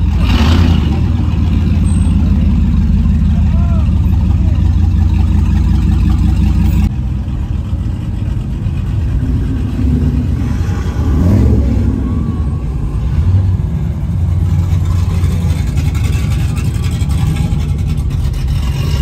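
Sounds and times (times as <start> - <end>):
truck engines rumbling: 0.0 - 19.0.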